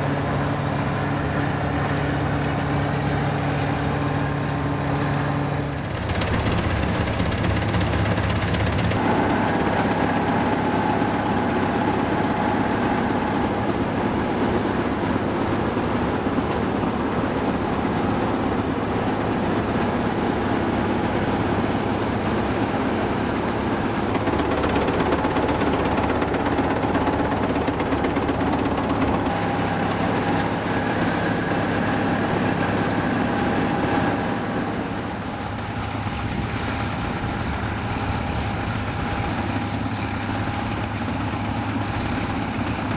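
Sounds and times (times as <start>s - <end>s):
combine harvester engine hum: 0.0s - 42.9s
threshing machinery whine: 0.0s - 42.9s.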